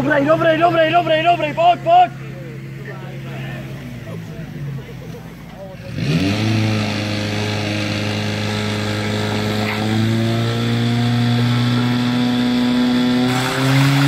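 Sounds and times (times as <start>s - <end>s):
fire pump engine running: 0.0s - 14.0s.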